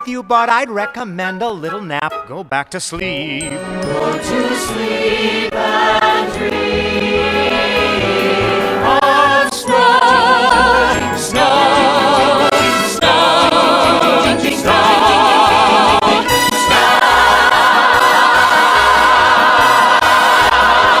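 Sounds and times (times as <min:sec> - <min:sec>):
orchestral music with voices: 0:00.0 - 0:21.0.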